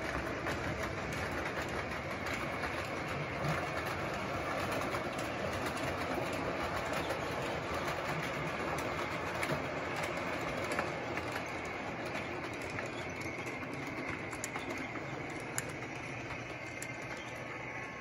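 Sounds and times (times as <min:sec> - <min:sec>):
model train motors whirring: 0:00.0 - 0:18.0
wheels clicking on track: 0:00.0 - 0:18.0.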